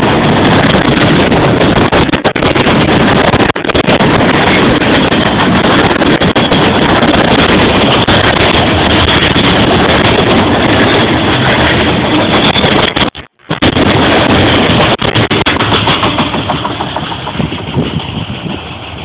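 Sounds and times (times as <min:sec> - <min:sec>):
train passing at speed: 0:00.0 - 0:19.0
wind buffeting microphone: 0:00.0 - 0:19.0.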